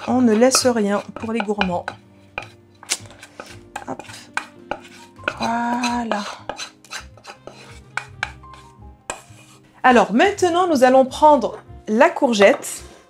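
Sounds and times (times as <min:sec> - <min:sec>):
utensil scraping a saucepan: 0:00.0 - 0:13.0.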